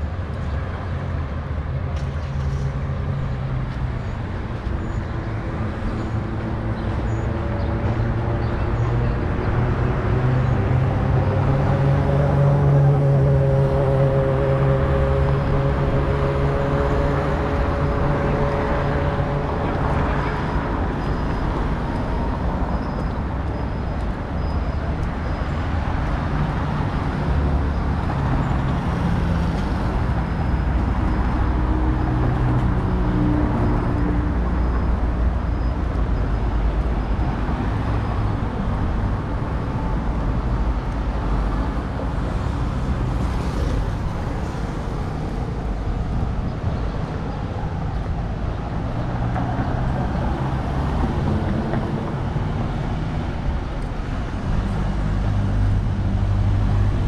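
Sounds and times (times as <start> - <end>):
traffic passing on road: 0.0 - 57.0.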